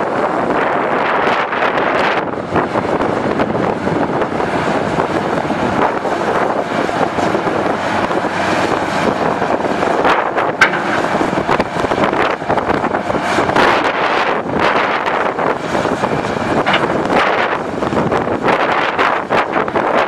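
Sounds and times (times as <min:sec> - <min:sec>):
excavator diesel engine running: 0:00.0 - 0:20.0
wind buffeting microphone: 0:00.0 - 0:20.0.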